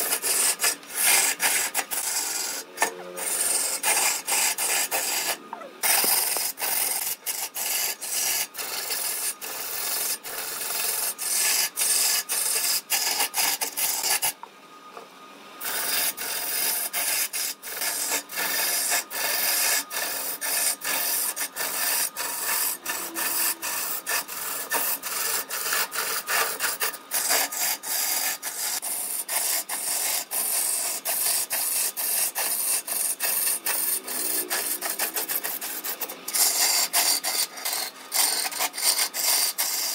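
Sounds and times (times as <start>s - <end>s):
chisel scraping wood on lathe: 0.0s - 14.4s, 15.6s - 39.9s.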